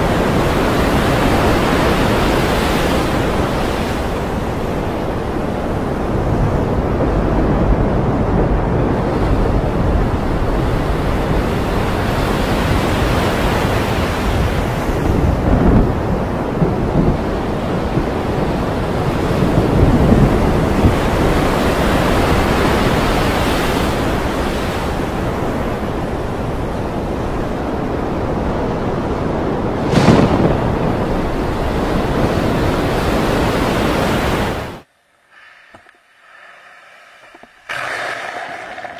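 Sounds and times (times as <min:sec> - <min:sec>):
waves breaking: 0:00.0 - 0:15.8, 0:17.3 - 0:38.9
wind: 0:00.0 - 0:38.9.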